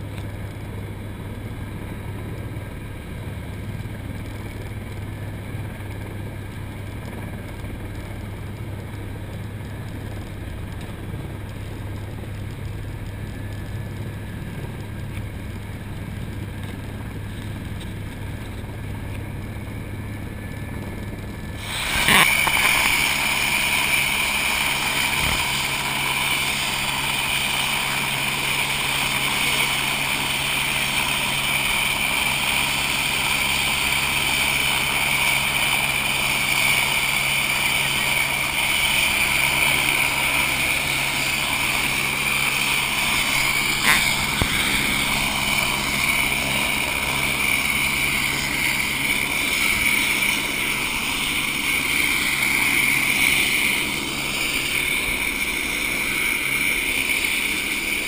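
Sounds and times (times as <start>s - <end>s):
helicopter idling: 0.0s - 58.0s.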